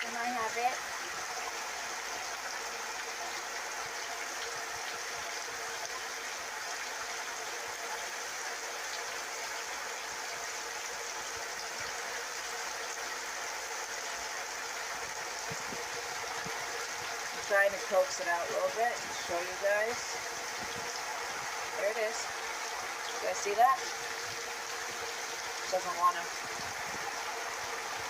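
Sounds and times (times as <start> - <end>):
shower running: 0.0 - 28.0.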